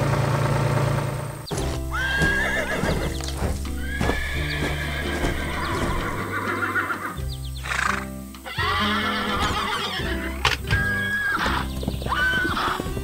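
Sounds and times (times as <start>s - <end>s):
background music: 1.5s - 13.0s
hooves clip-clopping: 1.5s - 13.0s
horse whinnying: 1.6s - 13.0s.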